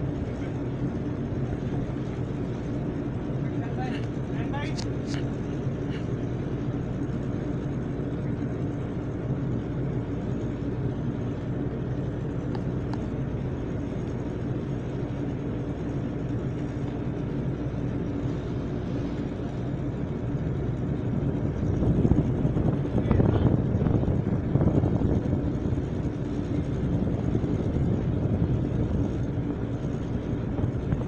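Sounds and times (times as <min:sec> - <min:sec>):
ship engines droning: 0:00.0 - 0:31.0
wind and sea noise: 0:00.0 - 0:31.0.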